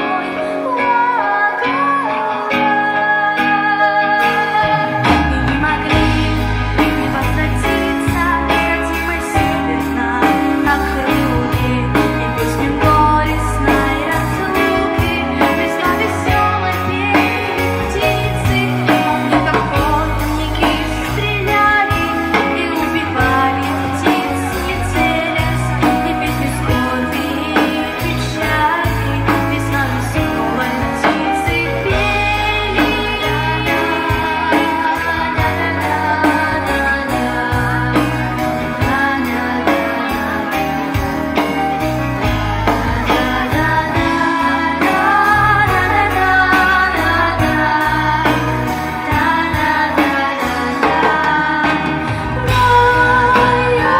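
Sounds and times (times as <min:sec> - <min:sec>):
low bass line: 0:04.6 - 0:53.9.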